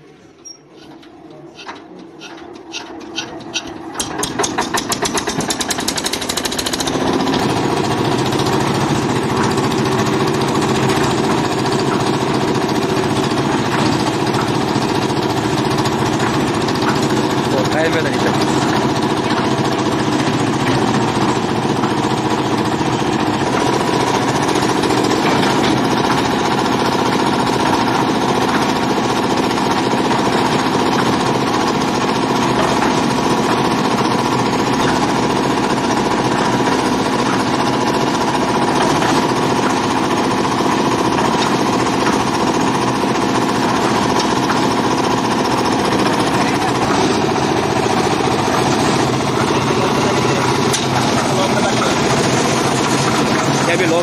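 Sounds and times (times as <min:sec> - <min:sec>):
concrete mixer engine knocking: 0:01.0 - 0:54.0.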